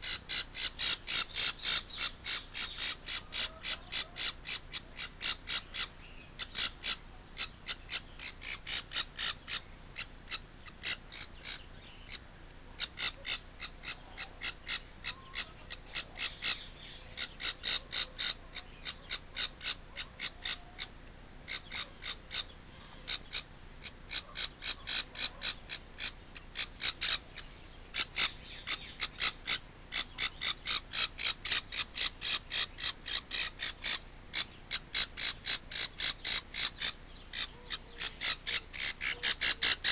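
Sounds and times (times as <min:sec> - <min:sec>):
parrot chick squawking: 0:00.0 - 0:12.2, 0:12.8 - 0:39.9.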